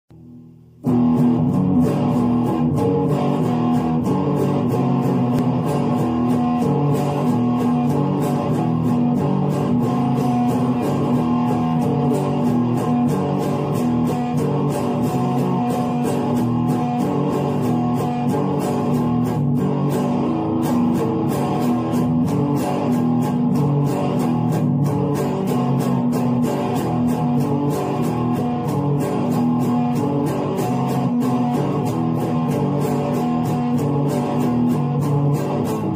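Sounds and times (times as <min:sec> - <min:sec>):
electric guitar playing: 0:00.1 - 0:35.9.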